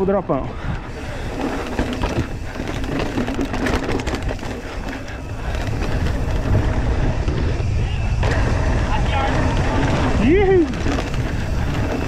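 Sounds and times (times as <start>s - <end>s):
bike rattling over bumps: 0.0s - 12.0s
wind rumbling on microphone: 0.0s - 12.0s.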